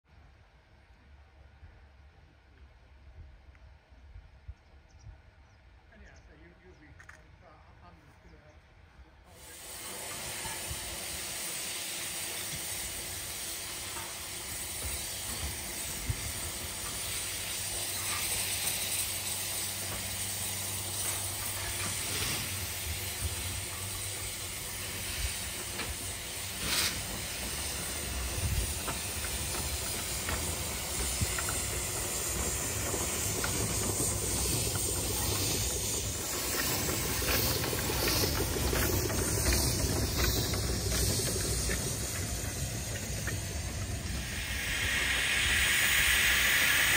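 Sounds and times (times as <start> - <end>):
locomotive low rumble: 0.2 - 46.9
steam hissing: 9.3 - 46.9.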